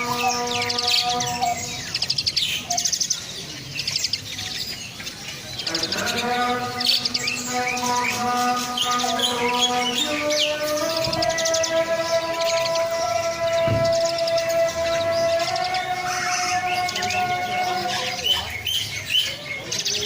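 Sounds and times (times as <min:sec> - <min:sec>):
starling chattering and whistling: 0:00.0 - 0:20.0.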